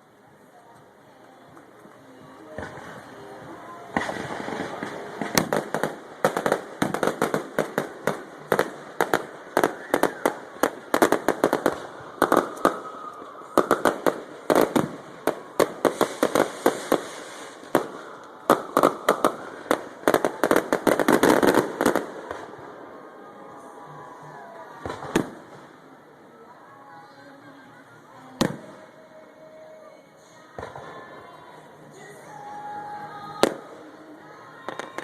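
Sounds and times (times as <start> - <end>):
fireworks bursting: 1.5 - 26.3, 28.2 - 35.0.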